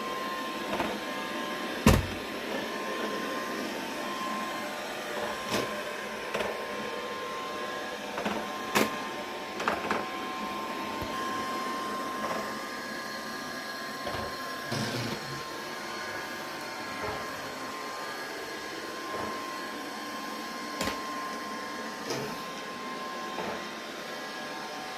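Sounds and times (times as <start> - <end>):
robot vacuum motor whine: 0.0 - 24.9.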